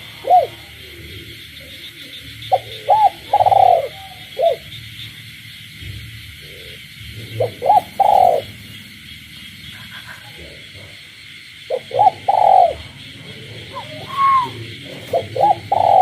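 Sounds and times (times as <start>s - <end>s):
dove cooing: 0.0s - 5.2s, 5.8s - 16.0s
chorus of frogs: 0.0s - 16.0s.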